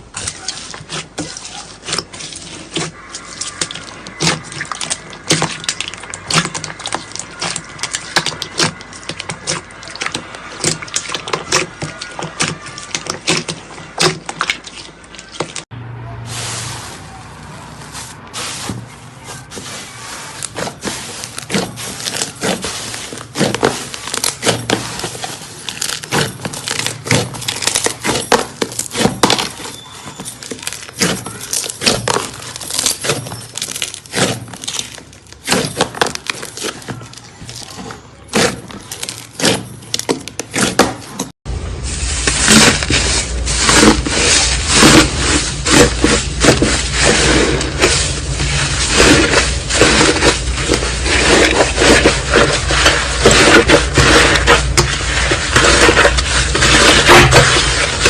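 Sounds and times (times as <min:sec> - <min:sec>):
slime crackling and popping: 0:00.0 - 0:15.7, 0:19.5 - 0:41.0, 0:42.0 - 0:58.0
dense crunching: 0:00.0 - 0:58.0.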